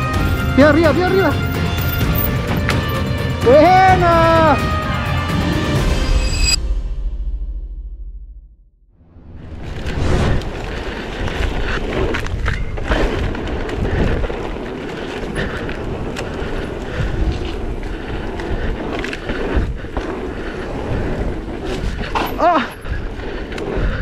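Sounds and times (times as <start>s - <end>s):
bike tyres on dirt: 0.0s - 4.6s, 9.1s - 24.0s.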